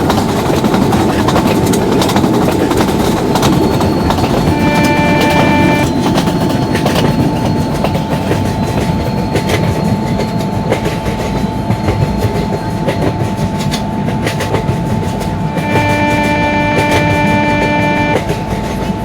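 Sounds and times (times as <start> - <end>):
train rumbling past: 0.0 - 19.0
wheels clacking over rail joints: 0.0 - 19.0.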